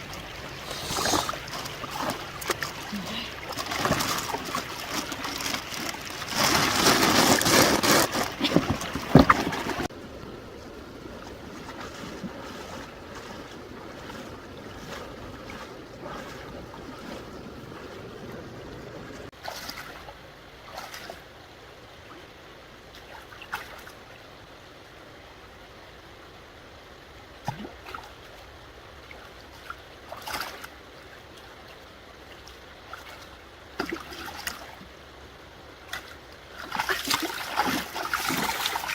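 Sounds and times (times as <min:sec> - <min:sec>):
water splashing and sloshing: 0:00.0 - 0:24.8, 0:27.4 - 0:38.9
moving water: 0:00.0 - 0:38.9.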